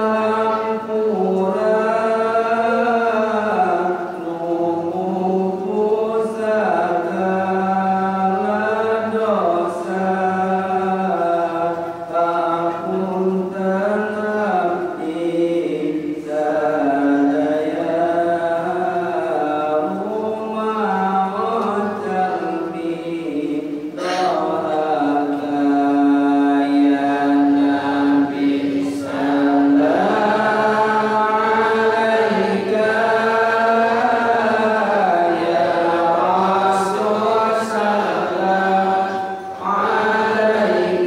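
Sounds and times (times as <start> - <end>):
voices chanting slow melody: 0.0 - 41.0.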